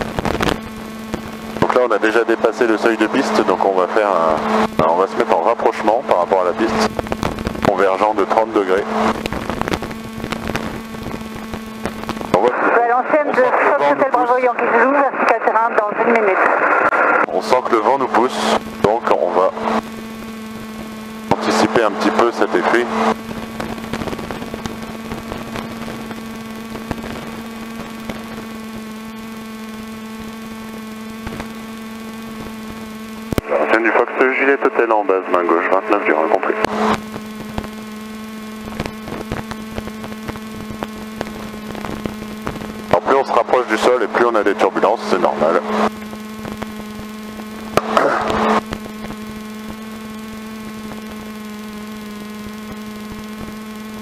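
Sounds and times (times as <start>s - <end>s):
aircraft cockpit droning hum: 0.0s - 54.0s.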